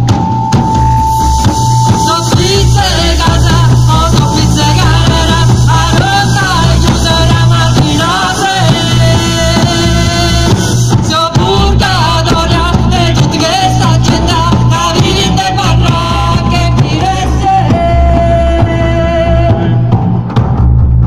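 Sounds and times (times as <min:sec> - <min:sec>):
large frame drums beaten: 0:00.0 - 0:21.0
steady bass line: 0:00.0 - 0:21.0
woman singing: 0:01.9 - 0:19.7.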